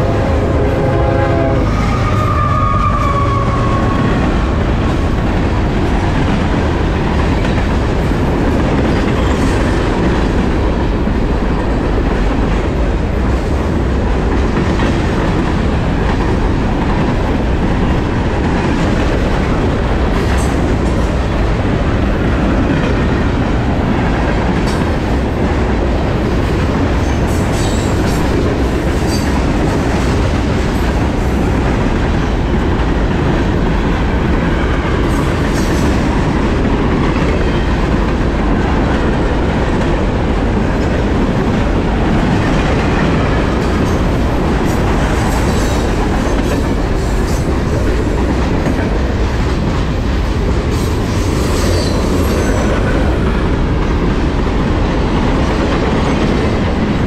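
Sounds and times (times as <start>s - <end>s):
clickety-clack of rail joints: 0.0s - 57.0s
train wheels rumbling on rails: 0.0s - 57.0s.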